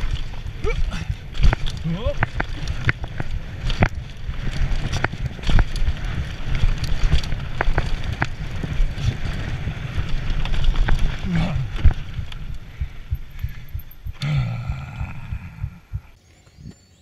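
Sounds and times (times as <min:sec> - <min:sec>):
bike rattles and clicks: 0:00.0 - 0:16.2
tyre noise on dirt: 0:00.0 - 0:16.2
wind buffeting microphone: 0:00.0 - 0:16.8.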